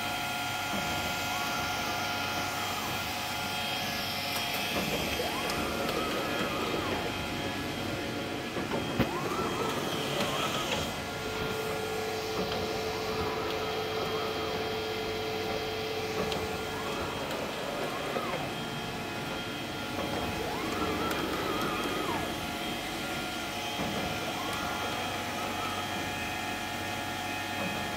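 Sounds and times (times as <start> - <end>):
binding machine mechanical din: 0.5 - 27.9
high machine tone rising and falling: 0.6 - 26.9.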